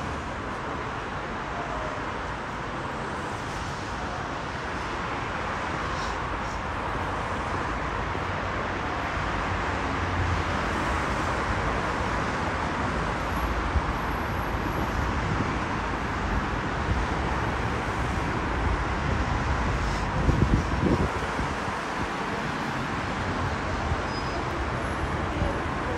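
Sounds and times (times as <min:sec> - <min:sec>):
low traffic rumble: 0:00.0 - 0:25.9
hiss of passing vehicles: 0:02.0 - 0:25.9.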